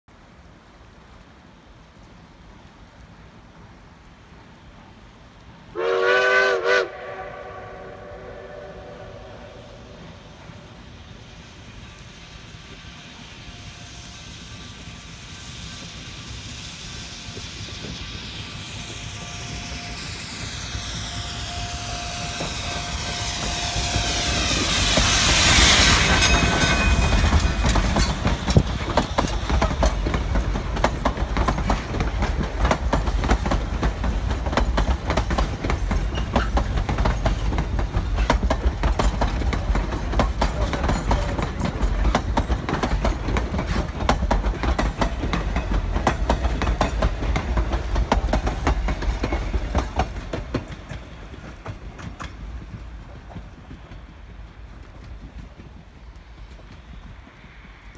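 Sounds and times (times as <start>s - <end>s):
train wheels clicking over rail joints: 10.0s - 57.9s.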